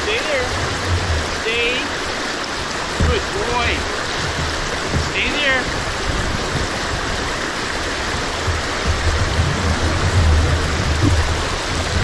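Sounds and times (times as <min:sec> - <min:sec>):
brook rushing over rapids: 0:00.0 - 0:12.0.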